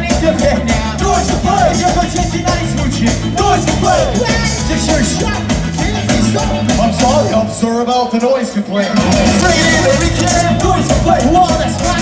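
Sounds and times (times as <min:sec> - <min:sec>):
ska band playing live: 0:00.0 - 0:12.0.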